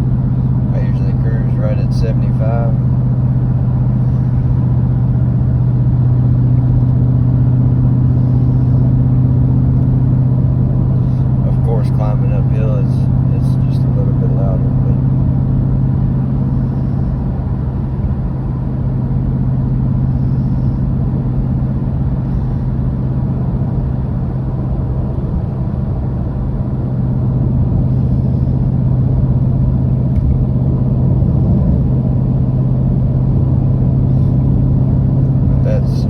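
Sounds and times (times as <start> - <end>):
exhaust drone inside car: 0.0 - 36.0
road rumble: 0.0 - 36.0.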